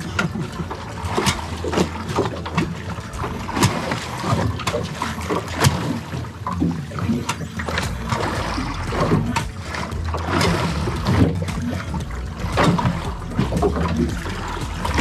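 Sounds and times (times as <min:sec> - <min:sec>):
steady low rumble: 0:00.0 - 0:15.0
water sloshing against boat hull: 0:00.0 - 0:15.0.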